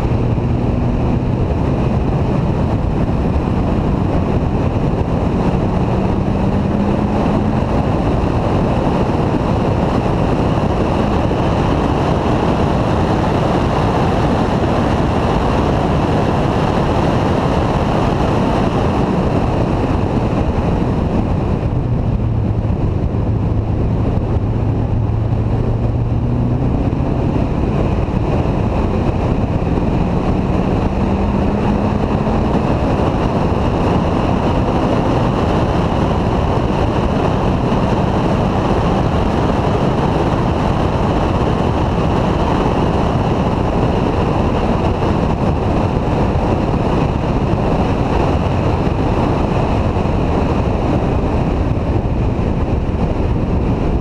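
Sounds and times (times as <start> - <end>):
car engine: 0.0 - 54.0
wind rushing over camera: 0.0 - 54.0.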